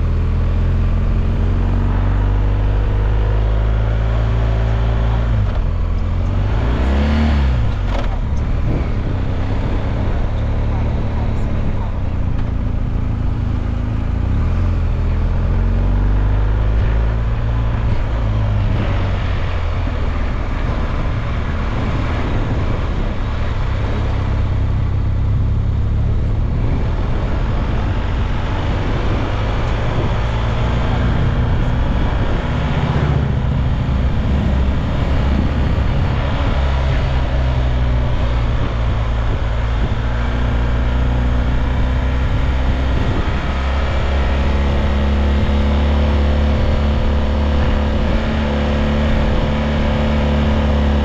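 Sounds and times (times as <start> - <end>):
motorcycle engine running: 0.0 - 51.0
wind noise: 0.0 - 51.0.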